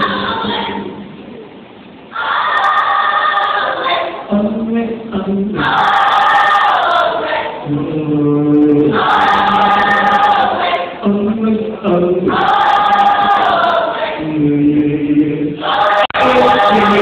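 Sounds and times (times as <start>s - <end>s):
choir singing held notes: 0.0s - 1.1s, 2.1s - 17.0s.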